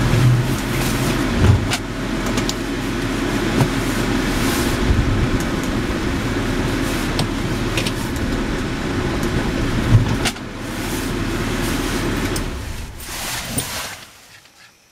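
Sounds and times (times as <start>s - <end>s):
car engine running: 0.0s - 14.3s.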